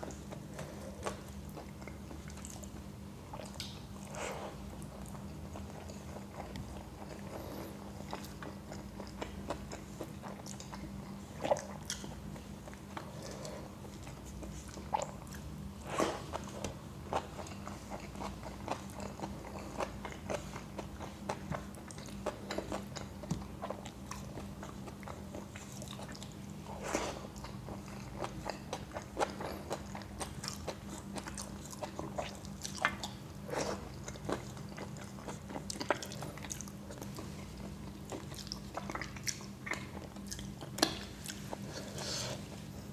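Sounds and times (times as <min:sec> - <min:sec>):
person chewing: 0:00.0 - 0:42.9
steady low hum: 0:00.0 - 0:42.9.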